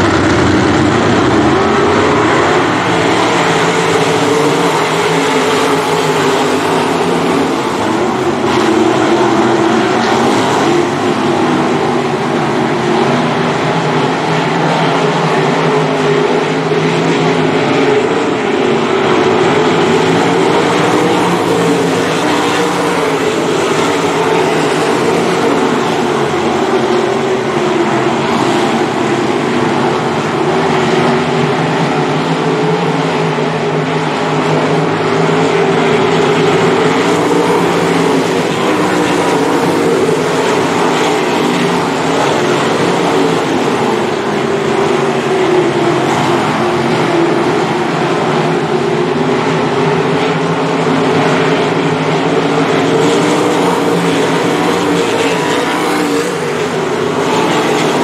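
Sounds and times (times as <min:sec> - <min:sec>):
racing car engines blaring: 0:00.0 - 0:58.0.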